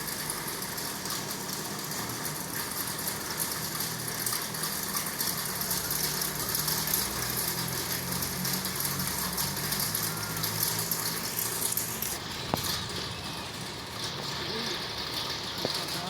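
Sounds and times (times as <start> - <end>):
heavy rain: 0.0 - 16.0
wind: 0.0 - 16.0.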